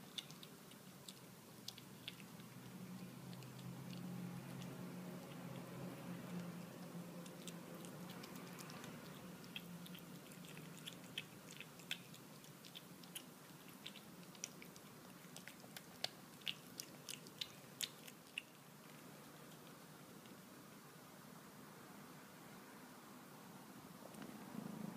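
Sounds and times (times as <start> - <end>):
kitten chewing wet food: 0.0 - 21.1.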